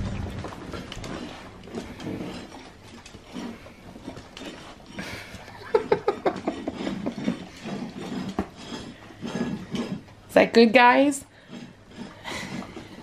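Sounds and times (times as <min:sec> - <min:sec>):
dogs licking plates: 0:00.0 - 0:13.0.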